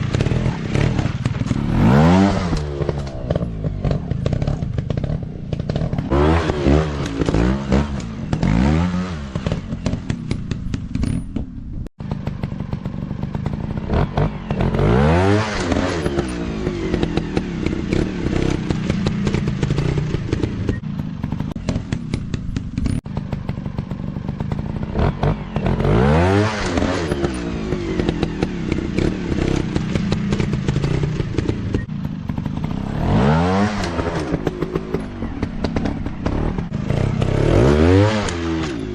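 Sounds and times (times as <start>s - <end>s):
dirt bike engines revving: 0.0s - 11.2s, 12.1s - 38.9s.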